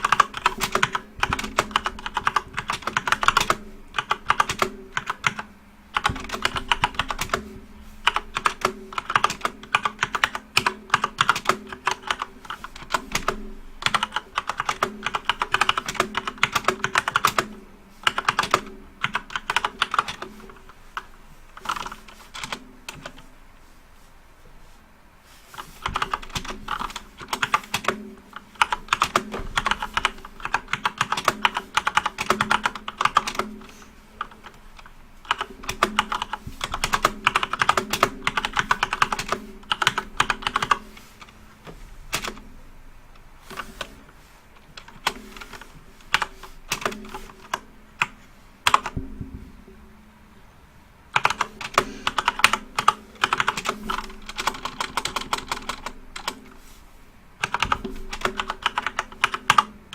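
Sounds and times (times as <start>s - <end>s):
fast keyboard typing: 0.0s - 23.3s, 25.5s - 42.5s, 44.6s - 49.1s, 51.1s - 56.5s, 57.4s - 59.7s.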